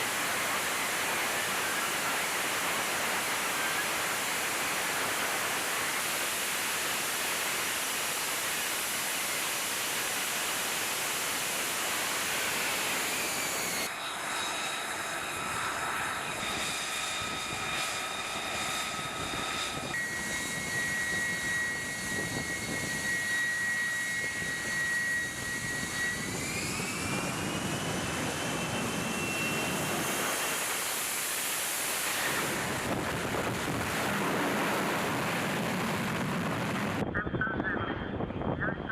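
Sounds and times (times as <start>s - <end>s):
jet engine roar with turbine whine: 0.0s - 38.9s.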